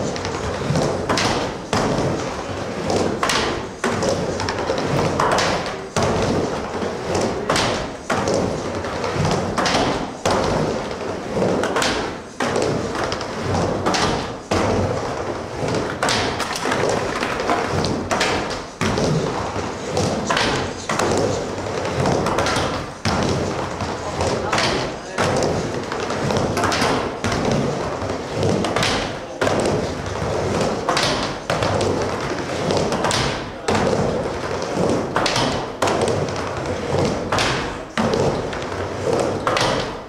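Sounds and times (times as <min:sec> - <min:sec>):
skateboard knocking on ramp: 0:00.0 - 0:40.0
skateboard wheel rumble: 0:00.0 - 0:40.0.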